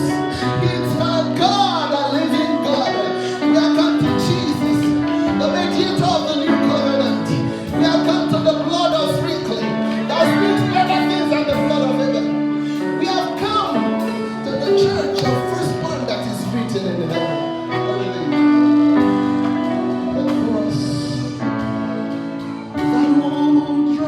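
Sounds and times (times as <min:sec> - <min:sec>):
held keyboard chords: 0:00.0 - 0:24.0
person singing: 0:00.0 - 0:24.0.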